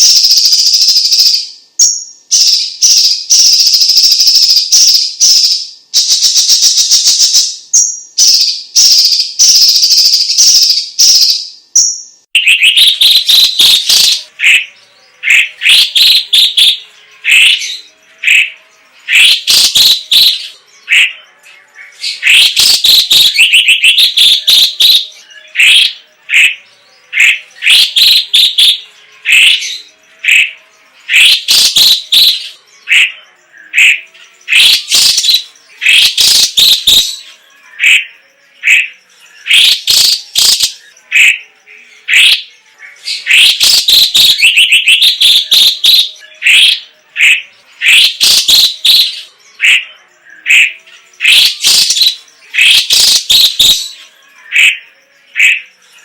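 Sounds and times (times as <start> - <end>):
bird high chirps: 0.0 - 56.0.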